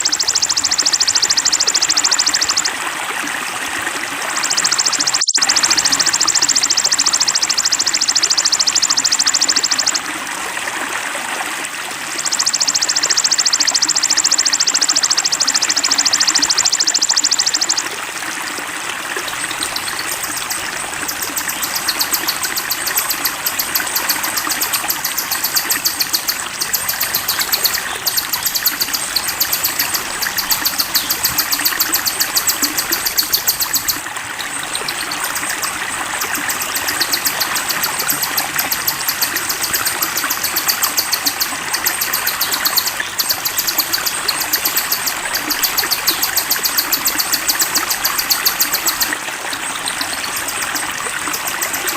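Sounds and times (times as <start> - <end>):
songbird high-pitched trill: 0.0 - 2.8, 4.4 - 10.0, 12.2 - 17.9, 19.2 - 49.2, 49.8 - 51.9
flowing water rushing: 0.0 - 51.9.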